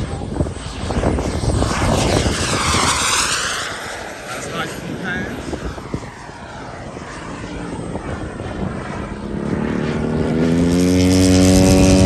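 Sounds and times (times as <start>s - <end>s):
model plane propeller engine: 0.0s - 12.0s.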